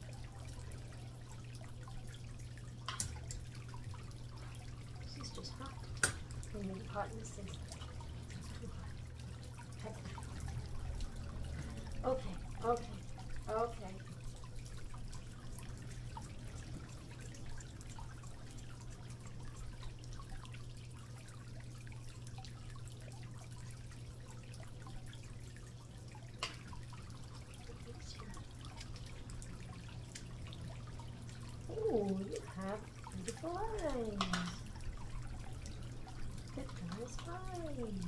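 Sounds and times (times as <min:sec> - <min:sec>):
steady low hum: 0:00.0 - 0:38.0
water dripping and trickling: 0:00.0 - 0:38.0.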